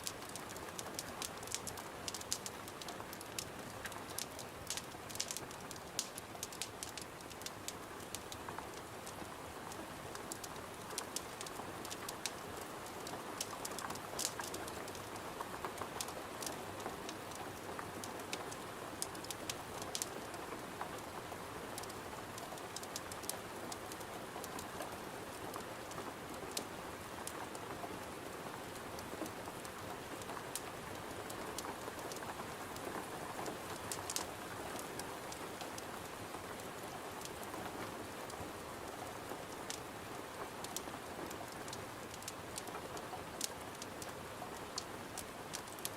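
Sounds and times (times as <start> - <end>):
wood fire popping and crackling: 0.0 - 24.8, 29.0 - 32.8, 33.5 - 37.5, 39.0 - 39.8, 40.4 - 45.9
rain against a window: 0.0 - 45.9.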